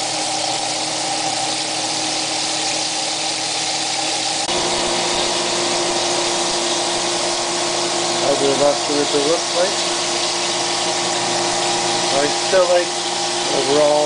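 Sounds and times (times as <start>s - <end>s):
chicken sizzling in hot oil: 0.0s - 14.0s
mechanical hum: 0.0s - 14.0s.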